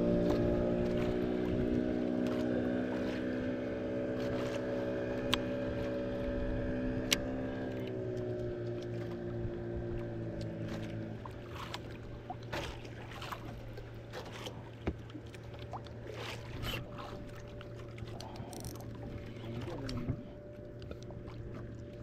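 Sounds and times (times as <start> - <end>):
boat engine humming: 0.0 - 22.0
water sloshing against hull: 0.0 - 22.0.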